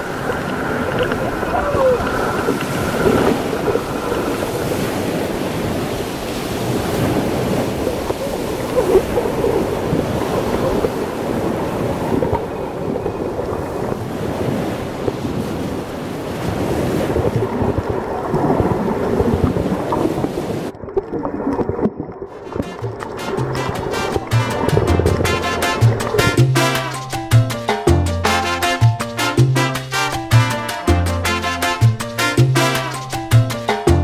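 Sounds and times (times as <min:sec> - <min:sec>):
muffled underwater rushing water: 0:00.0 - 0:34.0.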